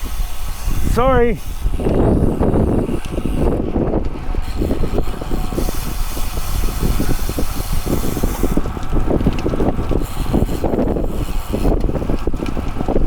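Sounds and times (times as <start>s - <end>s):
low road rumble: 0.0s - 13.0s
wind buffeting microphone: 0.0s - 13.0s.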